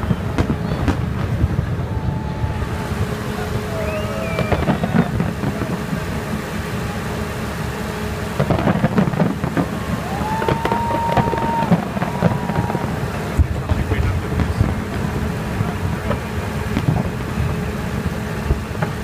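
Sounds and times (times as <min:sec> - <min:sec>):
fireworks bursting and crackling: 0:00.0 - 0:19.0
long steady firework whistle: 0:00.0 - 0:19.0.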